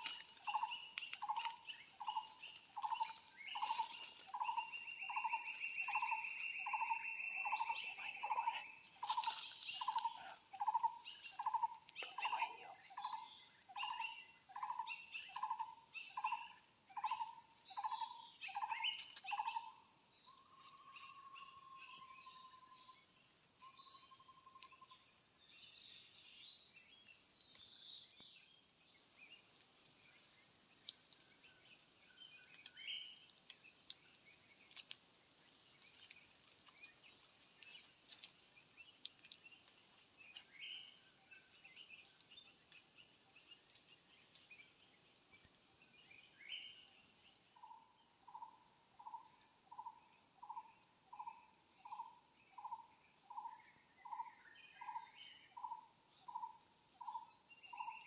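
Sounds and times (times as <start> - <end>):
faint chirps: 0.0 - 58.0
forest insects droning: 0.0 - 58.0.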